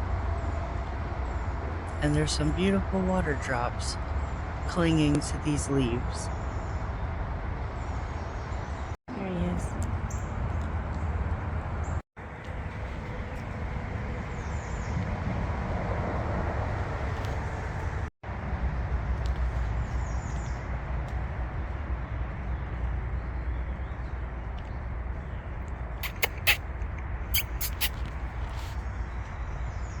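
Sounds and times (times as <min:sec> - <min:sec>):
outdoor background rumble: 0:00.0 - 0:30.0.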